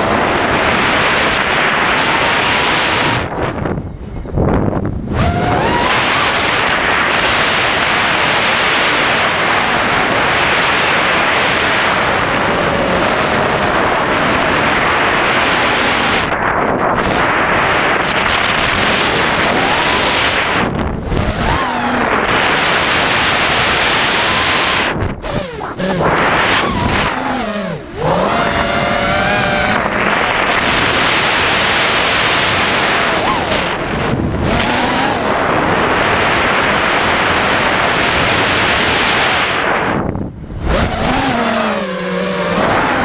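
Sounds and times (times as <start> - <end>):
quadcopter motors and propellers: 0.0 - 43.0
wind noise on microphone: 0.0 - 43.0.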